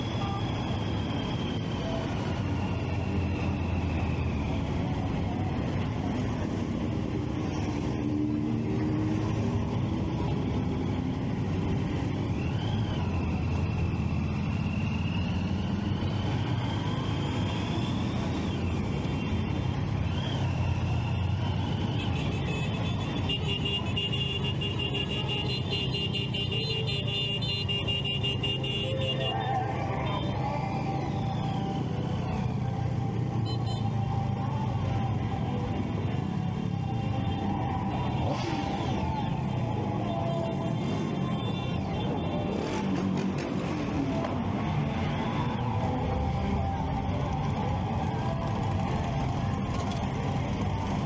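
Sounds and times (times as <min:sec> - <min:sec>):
road and traffic noise: 0:00.0 - 0:51.0.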